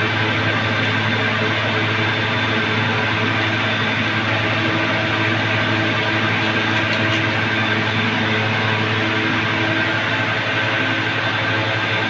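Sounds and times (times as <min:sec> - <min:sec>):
machine droning hum with hiss: 0:00.0 - 0:12.0.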